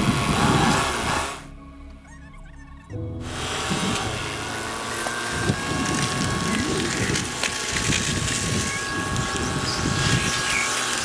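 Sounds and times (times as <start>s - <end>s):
forklift engine revving: 0.0s - 1.6s, 3.0s - 11.0s.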